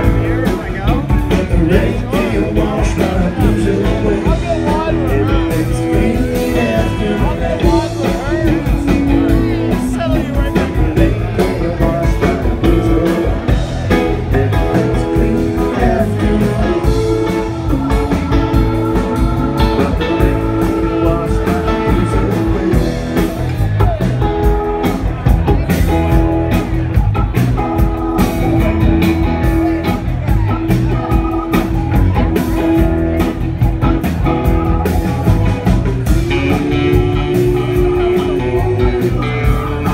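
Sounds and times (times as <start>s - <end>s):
drum beat: 0.0s - 39.9s
live rock band playing: 0.0s - 39.9s.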